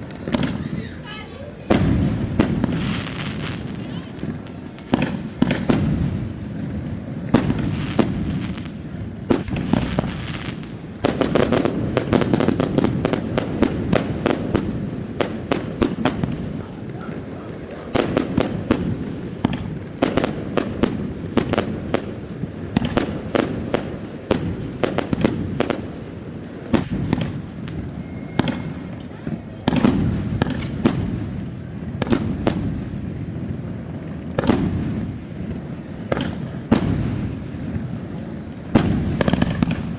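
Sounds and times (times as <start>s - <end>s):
fireworks bangs and crackling: 0.0s - 39.9s
rumble of firework booms: 0.0s - 39.9s.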